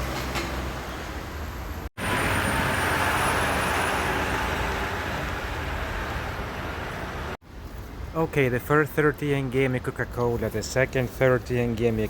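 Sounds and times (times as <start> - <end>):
road noise from passing vehicles: 0.0 - 12.0.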